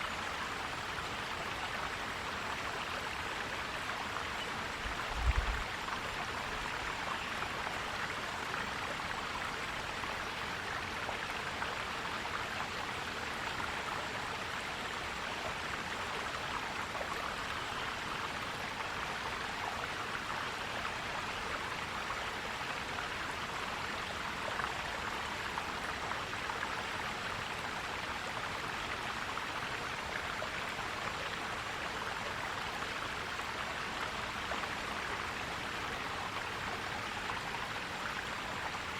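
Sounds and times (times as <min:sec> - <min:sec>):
stream water gurgling over rocks: 0:00.0 - 0:38.9.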